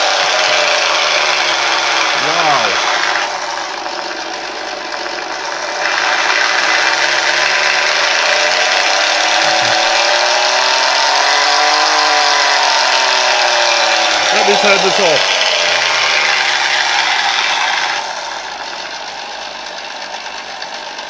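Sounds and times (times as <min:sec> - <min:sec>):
simulated aircraft engine: 0:00.0 - 0:21.0.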